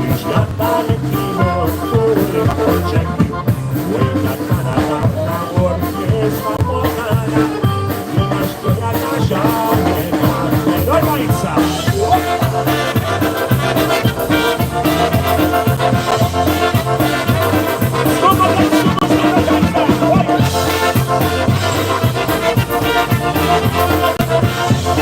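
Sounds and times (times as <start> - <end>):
bouncing bass line: 0.0 - 25.0
person singing: 0.0 - 25.0
polka band playing: 0.0 - 25.0.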